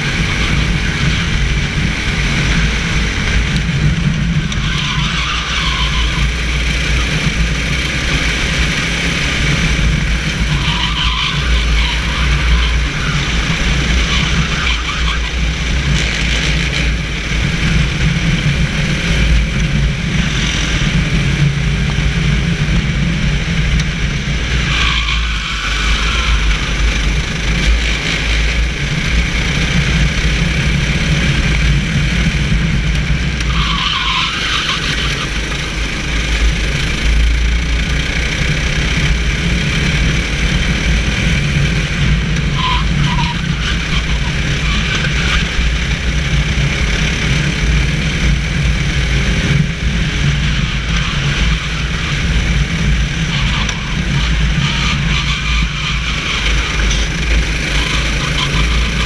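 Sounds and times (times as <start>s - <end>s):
kart engine running: 0.0s - 59.0s.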